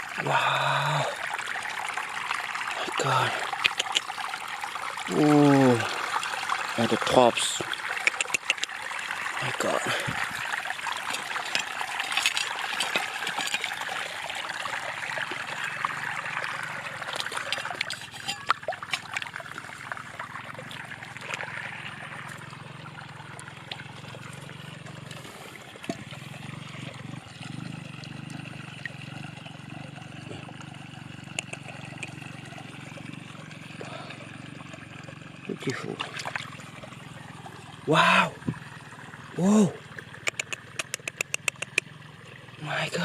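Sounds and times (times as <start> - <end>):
stream water running over rocks: 0.0 - 43.0.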